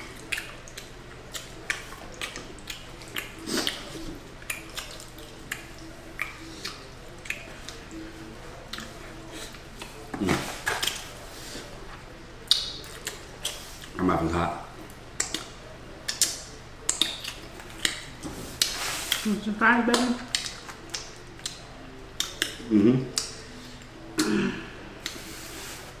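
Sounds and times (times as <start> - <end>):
chewing and lip-smacking: 0.0 - 10.0, 10.6 - 14.0, 14.7 - 19.3, 19.9 - 24.3.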